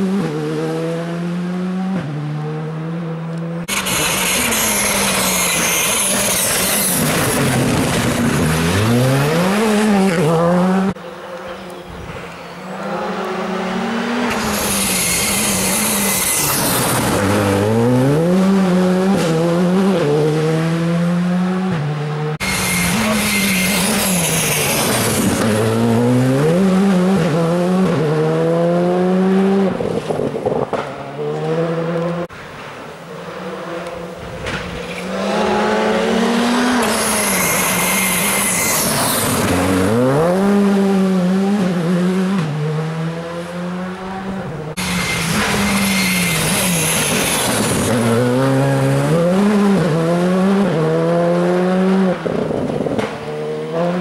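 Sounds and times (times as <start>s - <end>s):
rally car engine revving: 0.0s - 32.3s, 33.2s - 54.0s.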